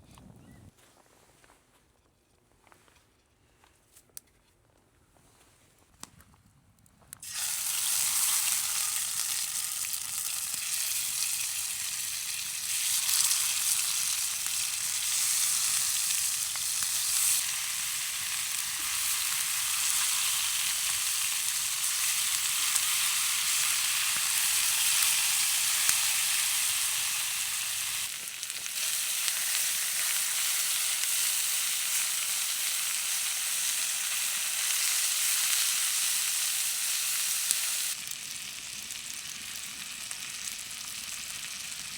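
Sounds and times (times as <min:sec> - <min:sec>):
chicken wings sizzling in fat: 0:07.2 - 0:41.9.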